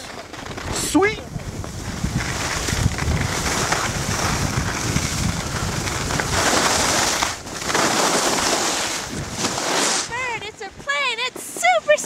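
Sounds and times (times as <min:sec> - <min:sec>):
wind rumble on microphone: 0:00.0 - 0:11.0
skis scraping on snow: 0:00.0 - 0:12.0.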